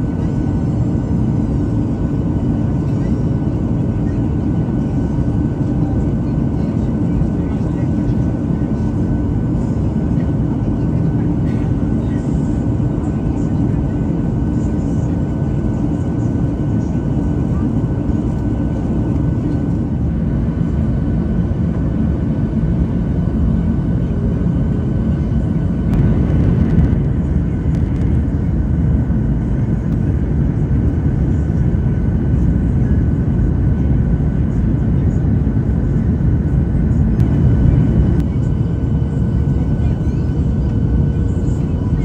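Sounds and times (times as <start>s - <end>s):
airplane cabin engine rumble: 0.0s - 42.0s.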